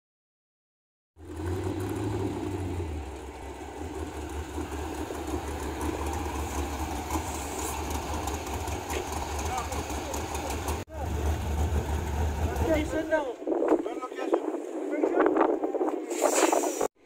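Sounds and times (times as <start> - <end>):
dune buggy engine rumbling: 1.2 - 16.1.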